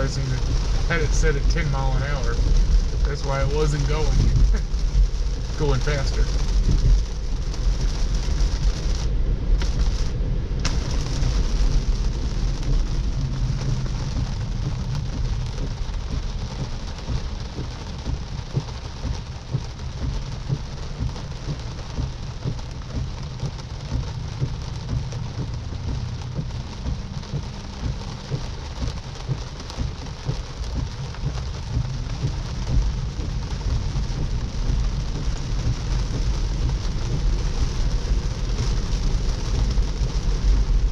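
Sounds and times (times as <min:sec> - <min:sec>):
rain pattering on a car: 0:00.0 - 0:40.9
tyre rumble on wet road: 0:00.0 - 0:40.9.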